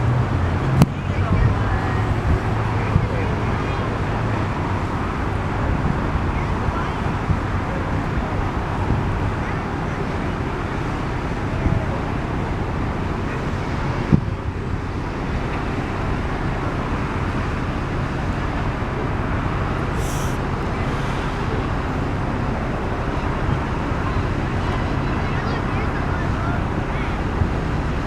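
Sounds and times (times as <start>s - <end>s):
low engine rumble: 0.0s - 28.0s
noisy wash: 0.0s - 28.0s.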